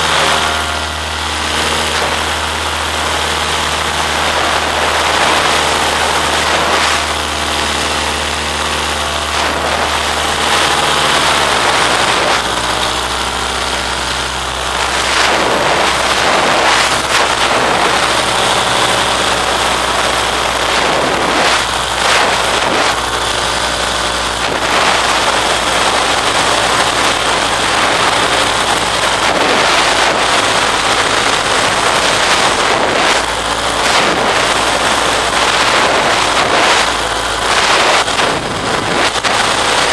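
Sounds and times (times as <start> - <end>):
small aircraft engine: 0.0 - 39.9
wind on microphone: 0.0 - 39.9.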